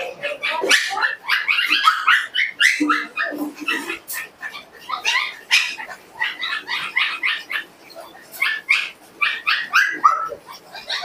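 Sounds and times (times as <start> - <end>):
small dogs yapping: 0.0 - 11.0.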